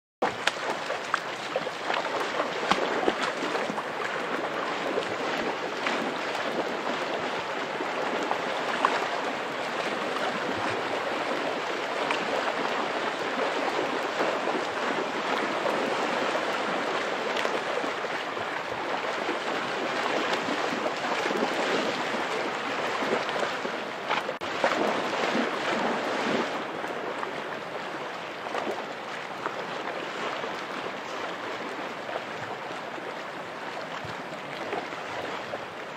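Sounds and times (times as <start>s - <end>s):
dog splashing through water: 0.2s - 35.9s
water rushing over rocks: 0.2s - 35.9s.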